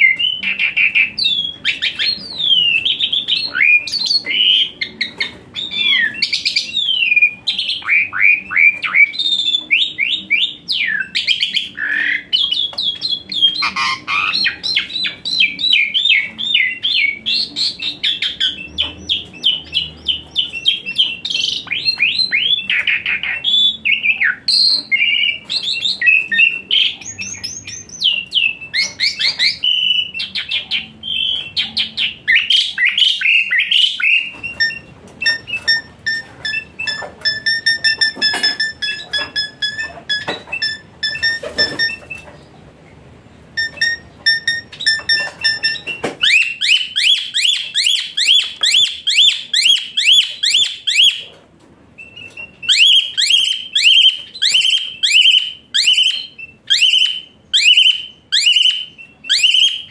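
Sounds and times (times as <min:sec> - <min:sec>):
starling singing: 0:00.0 - 0:42.7, 0:43.4 - 0:51.3, 0:52.0 - 0:59.9.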